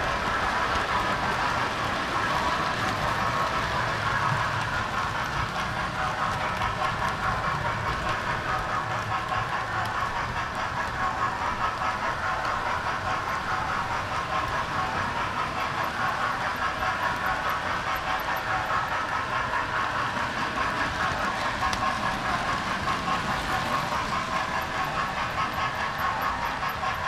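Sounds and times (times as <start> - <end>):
model train motor hum: 0.0 - 27.0
wheels rattling over rails: 0.0 - 27.0.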